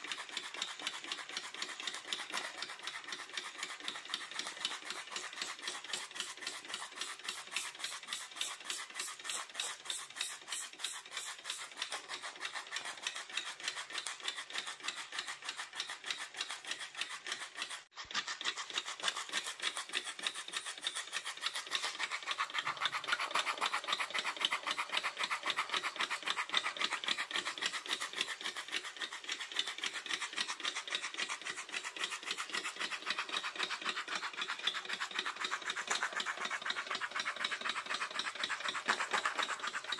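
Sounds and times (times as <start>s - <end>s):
miniature steam engine chuffing: 0.0s - 39.9s.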